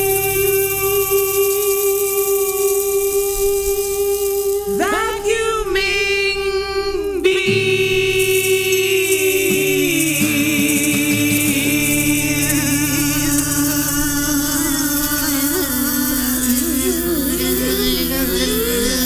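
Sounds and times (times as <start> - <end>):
person singing with music: 0.0 - 19.0.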